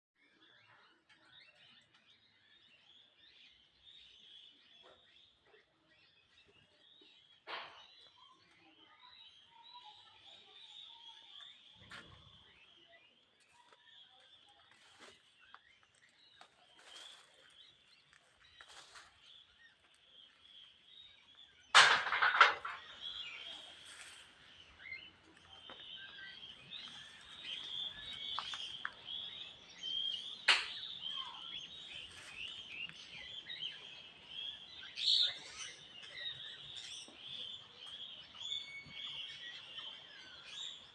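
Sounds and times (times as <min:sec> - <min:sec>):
birds chirping and calling: 0:00.2 - 0:40.9.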